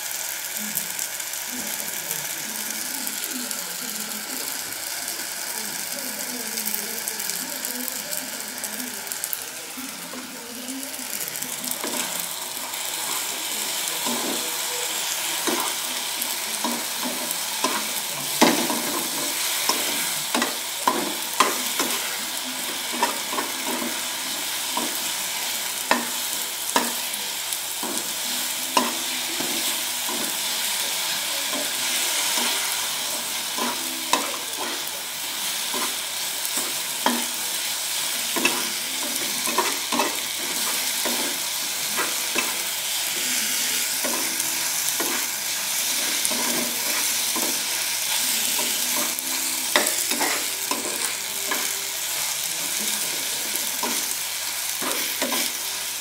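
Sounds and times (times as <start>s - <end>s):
sausages sizzling in a frying pan: 0.0s - 56.0s.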